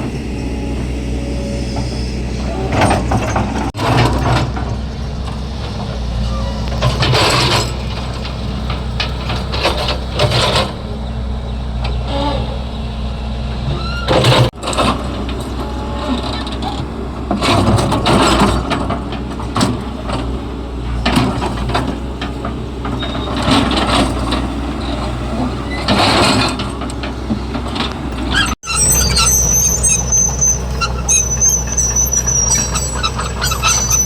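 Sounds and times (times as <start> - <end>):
excavator diesel engine running: 0.0 - 34.0
bucket scraping and clattering: 1.8 - 10.9, 13.9 - 34.0.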